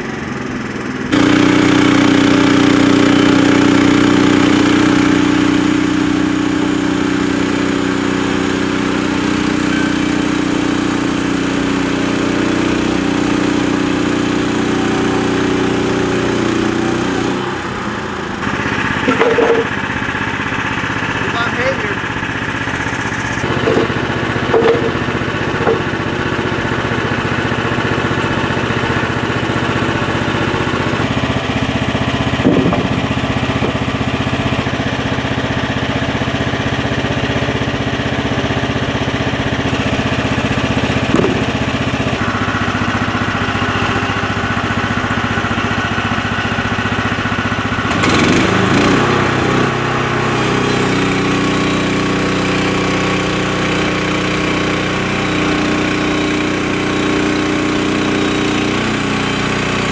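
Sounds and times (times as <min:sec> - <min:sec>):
sawmill engine running: 0:00.0 - 0:59.9
blade sawing log: 0:01.1 - 0:46.8, 0:47.9 - 0:59.9.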